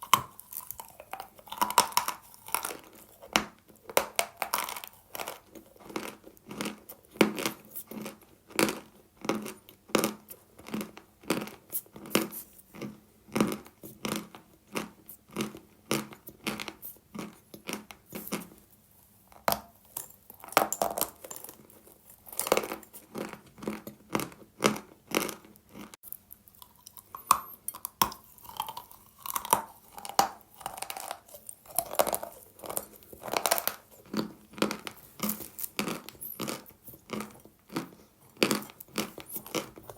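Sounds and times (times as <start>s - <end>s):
chalk being crunched and chewed: 0.0s - 12.9s, 19.9s - 39.9s.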